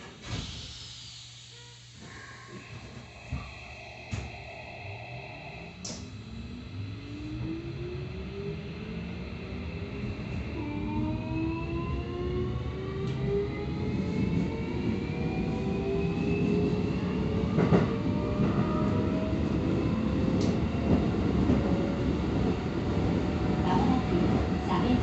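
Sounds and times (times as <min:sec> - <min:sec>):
train motor whine: 0:00.0 - 0:25.0
wheels rumbling on rail: 0:03.1 - 0:25.0.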